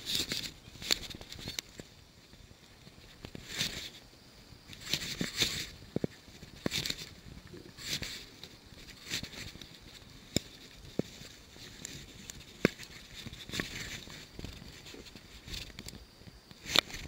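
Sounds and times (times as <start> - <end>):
rustling of hands and fishing line: 0.0 - 17.0.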